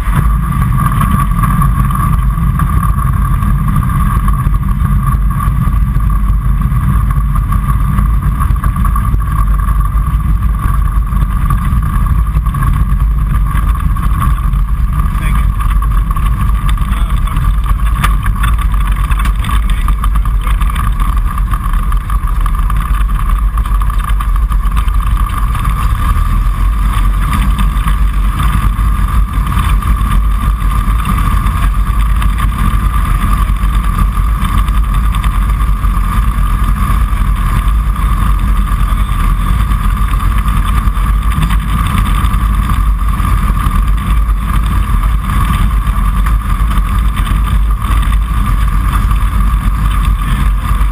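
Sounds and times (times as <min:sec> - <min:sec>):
light aircraft engine droning: 0:00.0 - 0:50.9.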